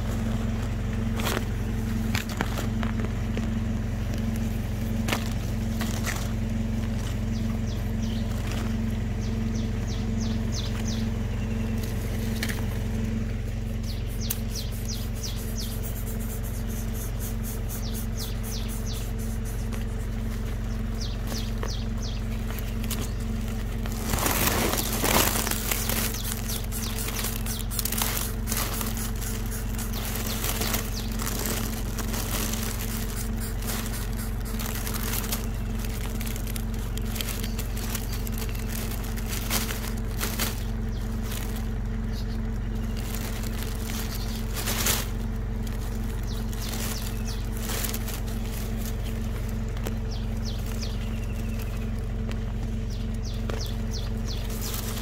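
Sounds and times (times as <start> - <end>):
dry grass crackling and rustling: 0.0 - 55.0
steady low hum: 0.0 - 55.0.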